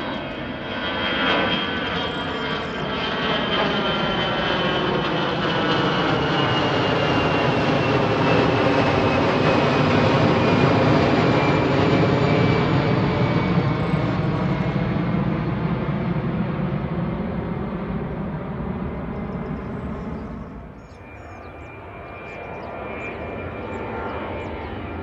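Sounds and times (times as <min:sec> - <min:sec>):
jet airliner flying overhead: 0:00.0 - 0:25.0.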